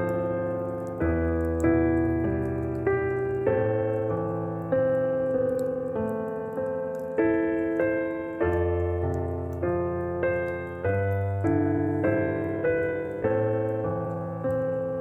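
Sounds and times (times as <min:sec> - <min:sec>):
slow solo piano hymn: 0:00.0 - 0:15.0.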